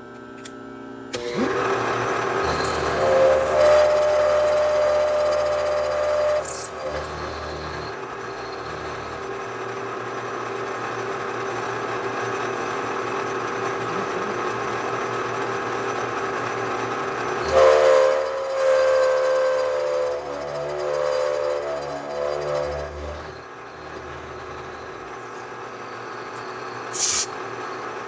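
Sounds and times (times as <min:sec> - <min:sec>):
louder machine whine: 0:01.0 - 0:28.0
milling machine whine: 0:01.1 - 0:28.0.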